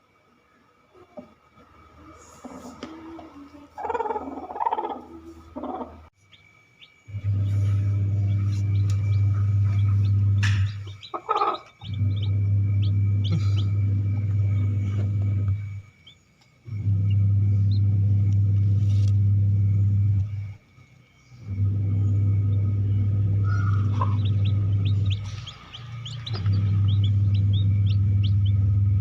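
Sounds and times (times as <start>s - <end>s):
low electrical hum: 0.0s - 29.0s
chicks peeping: 2.2s - 20.8s, 21.4s - 29.0s.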